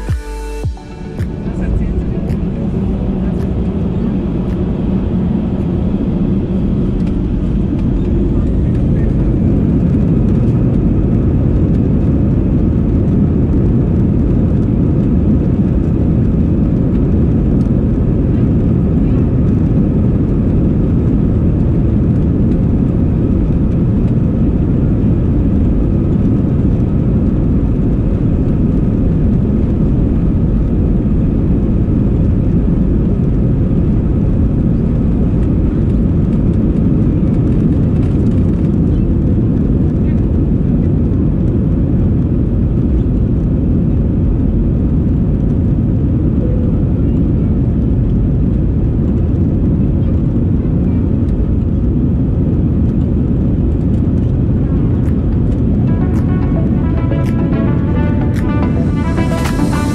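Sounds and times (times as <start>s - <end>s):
faint high engine whine: 0.0s - 59.9s
jet engines deep rumble: 0.8s - 59.9s.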